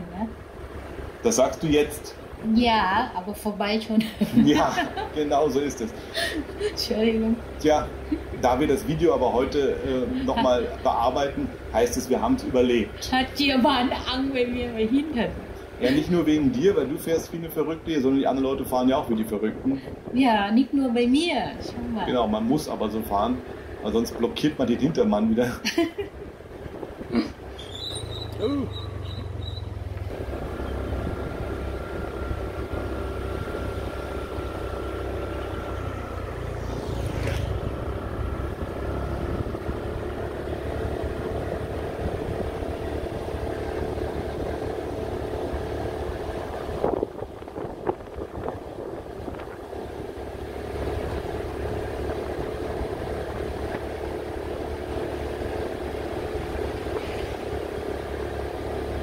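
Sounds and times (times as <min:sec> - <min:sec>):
motorbike engine running: 0:00.0 - 0:19.1, 0:19.8 - 0:59.0.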